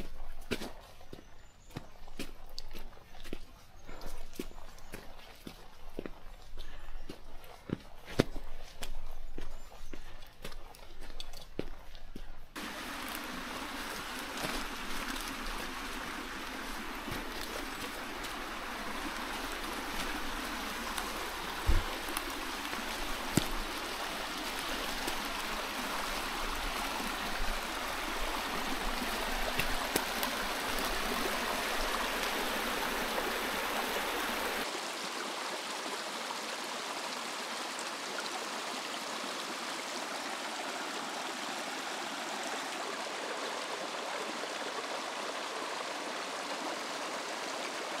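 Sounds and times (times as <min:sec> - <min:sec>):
small stream running: 0:00.0 - 0:48.0.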